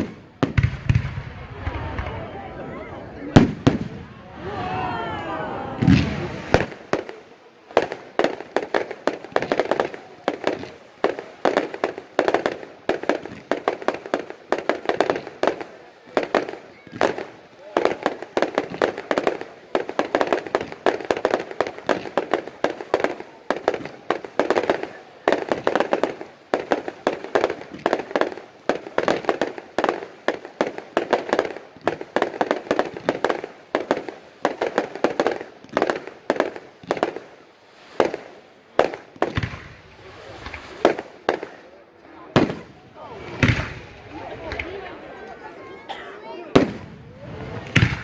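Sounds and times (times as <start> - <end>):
fireworks bangs: 0.0 - 48.0
fireworks crackling: 0.0 - 48.0.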